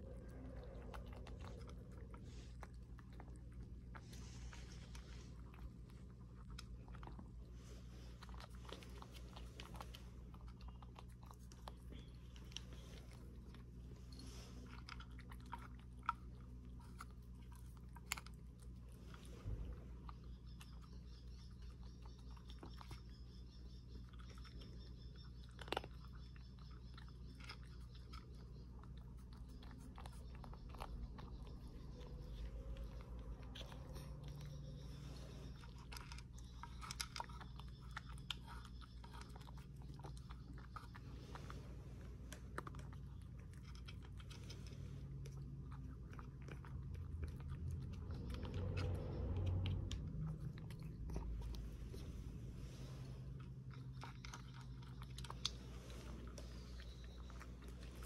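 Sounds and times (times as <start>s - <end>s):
cat crunching dry kibble: 0.0s - 58.0s
low hum: 0.0s - 58.0s.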